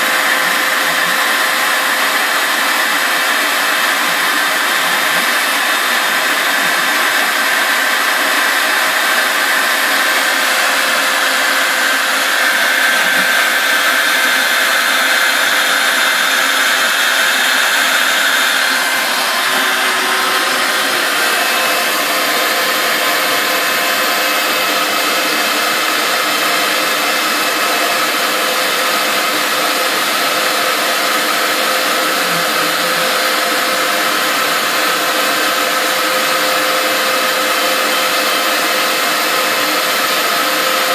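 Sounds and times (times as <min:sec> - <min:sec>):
router spindle cutting foam: 0:00.0 - 0:40.9
shop vacuum sucking: 0:00.0 - 0:40.9.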